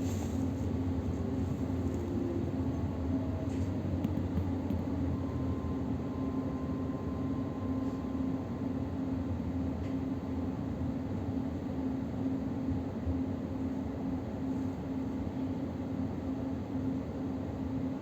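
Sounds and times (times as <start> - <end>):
train hum and rumble: 0.0 - 18.0.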